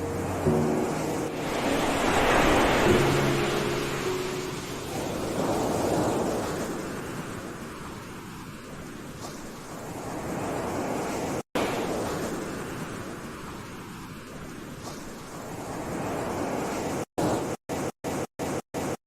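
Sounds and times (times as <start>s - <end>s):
sea waves surging: 0.0s - 19.0s.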